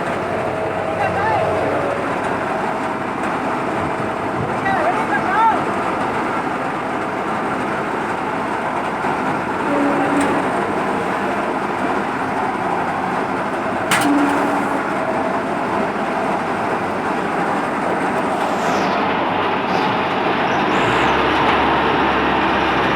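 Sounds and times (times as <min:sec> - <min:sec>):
combine harvester running: 0:00.0 - 0:22.9.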